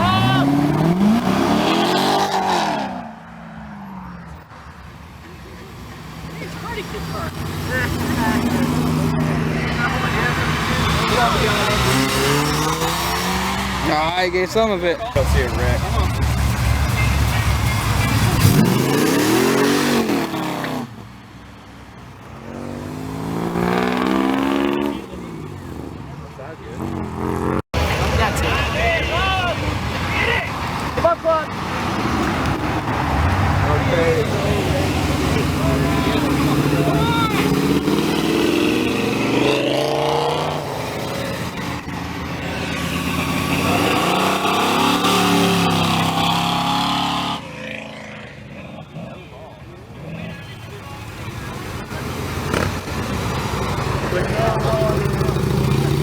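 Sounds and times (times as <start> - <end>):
car engine revving: 0.0 - 21.1, 21.9 - 56.0.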